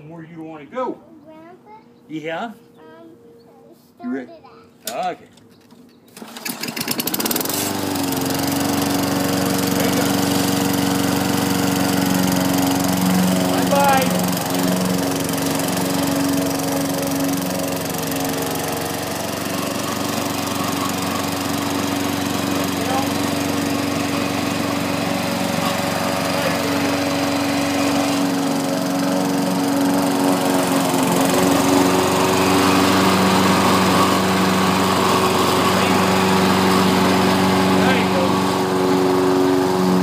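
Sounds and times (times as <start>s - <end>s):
lawn mower engine running: 5.5s - 40.0s.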